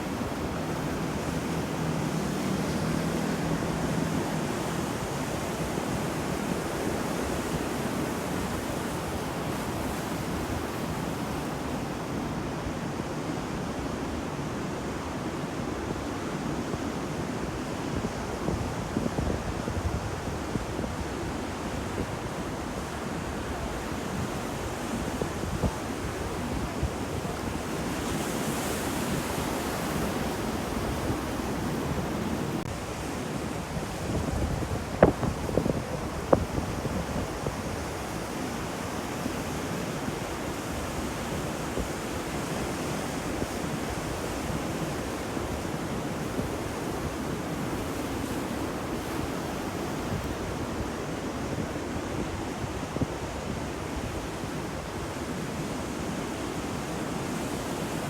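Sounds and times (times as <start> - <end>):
ocean surf washing in: 0.0 - 58.0
wind: 0.0 - 58.0.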